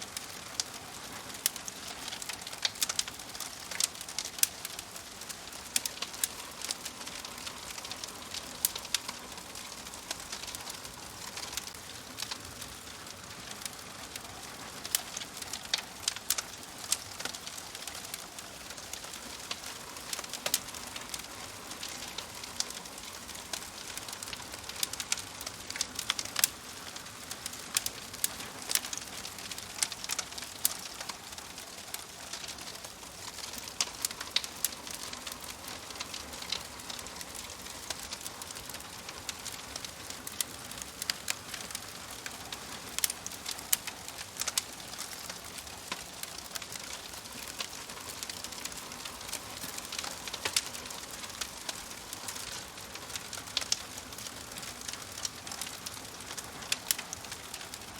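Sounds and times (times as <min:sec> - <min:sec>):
burning wood hiss: 0:00.0 - 0:57.9
fire pops and snaps: 0:00.1 - 0:57.9.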